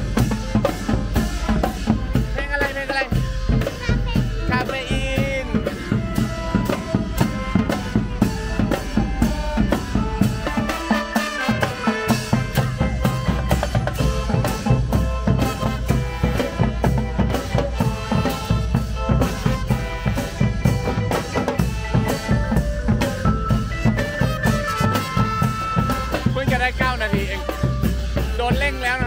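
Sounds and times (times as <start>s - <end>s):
trumpets: 0.0s - 22.7s, 23.8s - 29.0s
bass drums: 0.0s - 29.0s
cymbals: 0.0s - 29.0s
marching brass band playing: 0.0s - 29.0s
snare drums: 0.0s - 29.0s.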